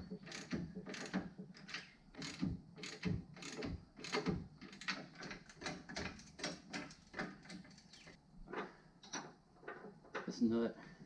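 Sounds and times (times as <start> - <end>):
metal tools clicking and clunking: 0.0 - 10.3.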